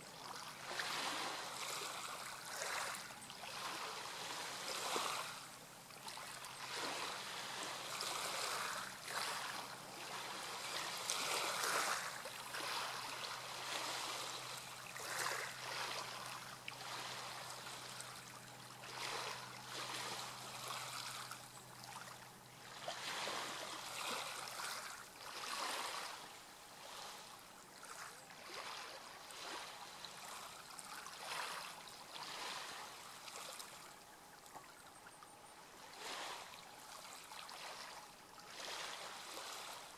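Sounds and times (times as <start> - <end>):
seawater lapping: 0.0 - 39.9.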